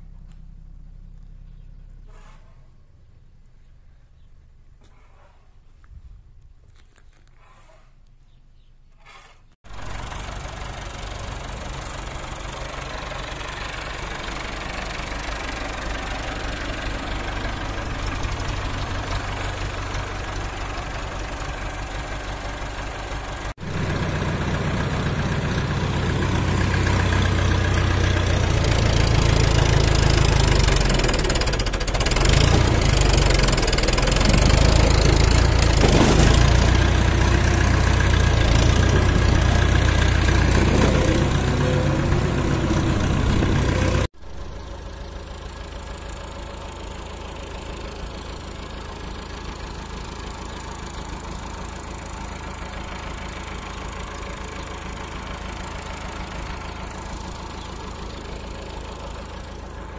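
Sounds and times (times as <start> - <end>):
tractor diesel engine running: 0.0 - 5.4, 9.1 - 59.9.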